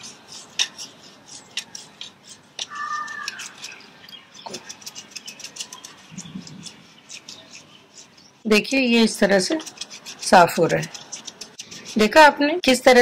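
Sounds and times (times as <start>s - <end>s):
toothbrush scrubbing metal grille: 0.0s - 13.0s.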